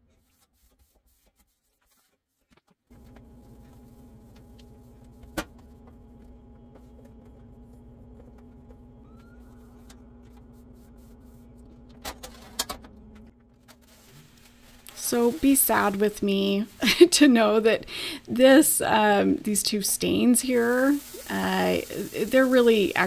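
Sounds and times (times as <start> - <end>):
steady low hum: 2.9 - 23.0.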